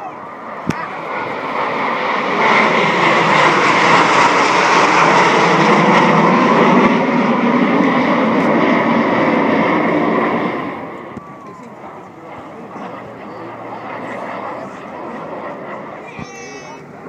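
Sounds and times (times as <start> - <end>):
jets passing overhead: 0.0 - 17.0.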